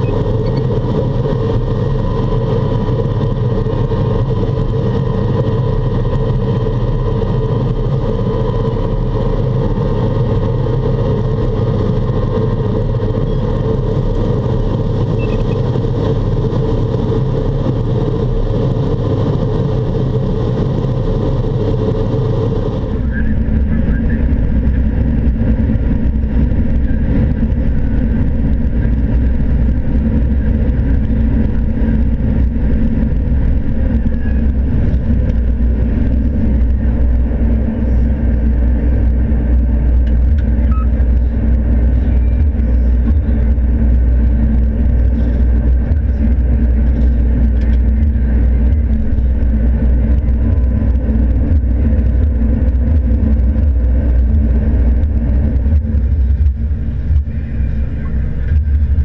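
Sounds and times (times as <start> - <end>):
combine harvester droning: 0.0 - 59.0.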